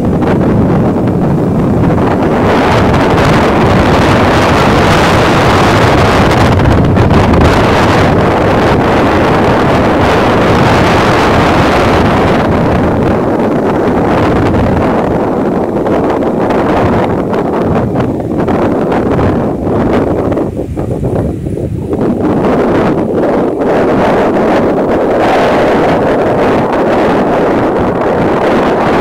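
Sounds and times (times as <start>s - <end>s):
surf breaking on beach: 0.0s - 29.0s
wind buffeting microphone: 0.0s - 29.0s.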